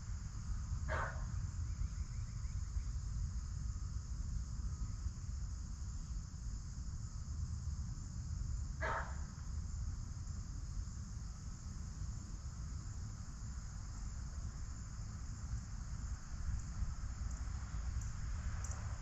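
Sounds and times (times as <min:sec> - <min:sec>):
crickets chirping: 0:00.0 - 0:19.0
wind rumble on microphone: 0:00.0 - 0:19.0.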